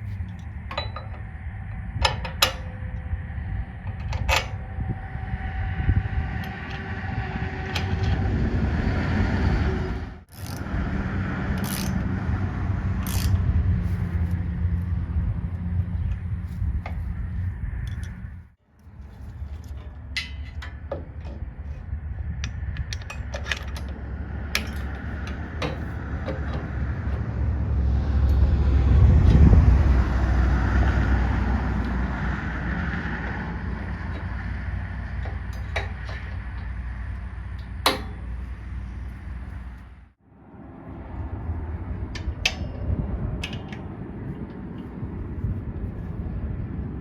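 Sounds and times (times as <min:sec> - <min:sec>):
low engine rumble: 0:00.0 - 0:47.0.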